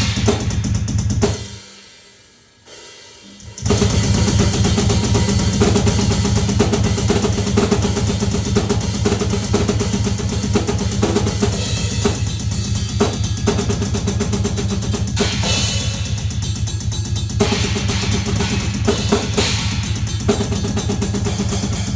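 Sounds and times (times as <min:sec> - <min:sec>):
drum kit fast rhythm: 0:00.0 - 0:21.9.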